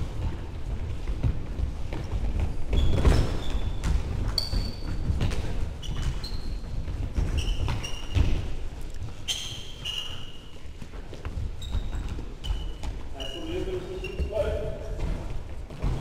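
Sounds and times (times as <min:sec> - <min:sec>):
running feet: 0:00.0 - 0:16.0
trainers squeaking on floor: 0:02.0 - 0:16.0.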